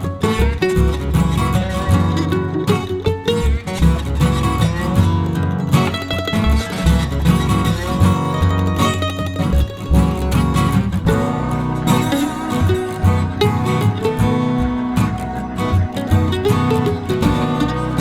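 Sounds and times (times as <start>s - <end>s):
plucked guitar music: 0.0s - 18.0s
steady bass line: 0.0s - 18.0s.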